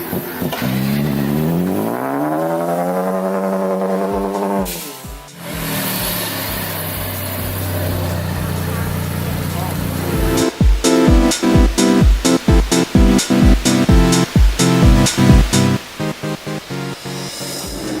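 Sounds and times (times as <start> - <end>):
car engine accelerating: 0.0 - 18.0
music with steady beat: 3.6 - 18.0.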